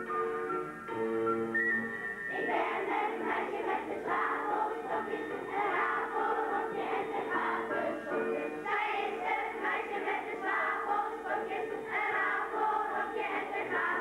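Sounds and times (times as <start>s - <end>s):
instrumental accompaniment: 0.0s - 14.0s
children's choir singing: 2.3s - 14.0s.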